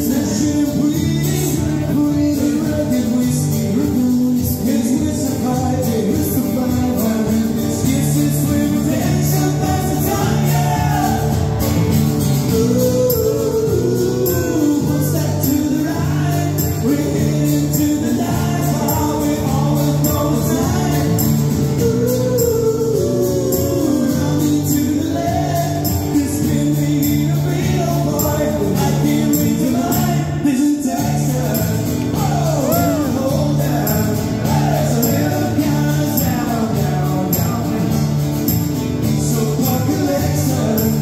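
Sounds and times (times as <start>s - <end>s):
steady drum beat: 0.0s - 30.3s, 31.0s - 41.0s
acoustic and electric guitars: 0.0s - 41.0s
man singing: 0.0s - 41.0s.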